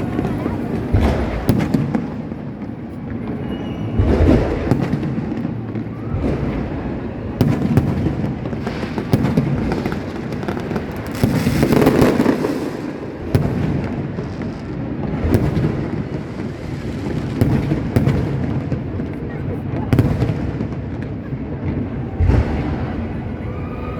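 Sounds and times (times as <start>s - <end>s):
fireworks cracking: 0.0s - 23.8s
fireworks booming: 0.0s - 23.9s.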